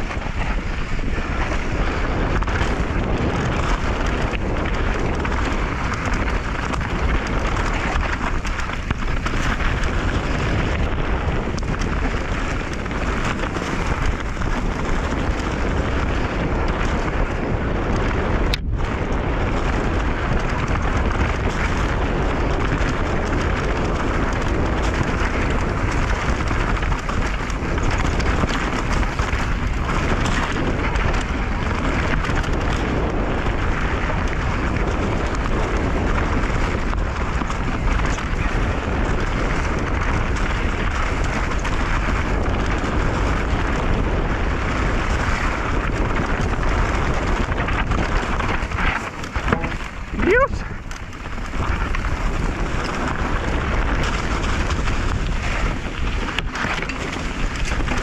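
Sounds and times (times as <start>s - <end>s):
bike tyres rumbling over rough trail: 0.0s - 58.0s
wind on microphone: 0.0s - 58.0s.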